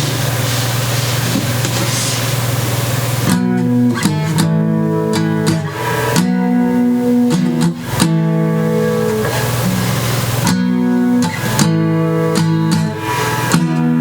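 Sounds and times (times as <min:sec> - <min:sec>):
acoustic guitar strummed chords: 0:00.0 - 0:14.0
steady hiss with low hum: 0:00.0 - 0:14.0.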